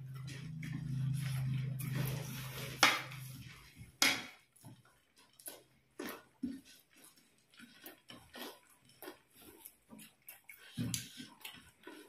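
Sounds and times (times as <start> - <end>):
chewing: 0.0 - 12.0
fingers mixing puffed rice: 0.0 - 12.0.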